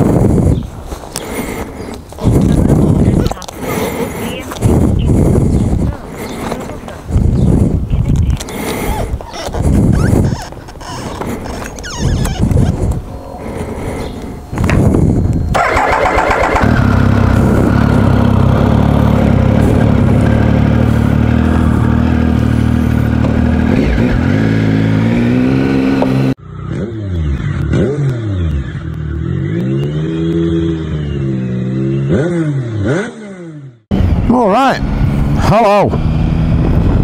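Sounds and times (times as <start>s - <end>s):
motorcycle engine idling and revving: 0.0s - 37.0s.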